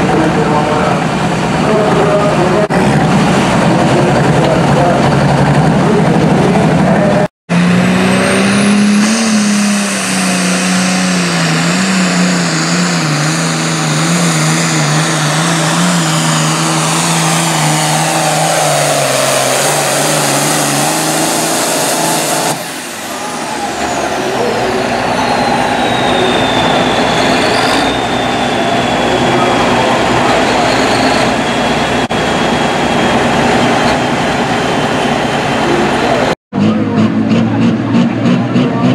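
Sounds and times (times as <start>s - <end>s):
diesel engine at full throttle: 0.0s - 38.9s
high turbo whine: 0.0s - 38.9s.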